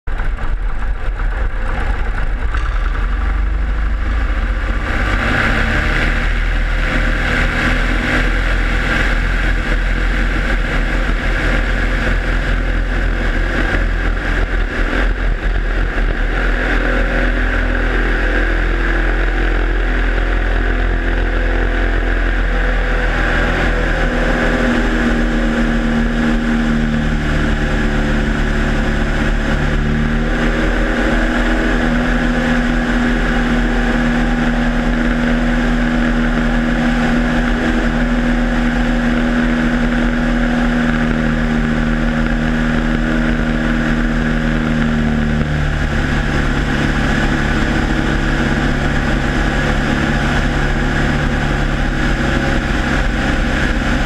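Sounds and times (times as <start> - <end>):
airplane engine and propeller: 0.1 - 54.0
wind rushing over microphone: 0.1 - 54.0.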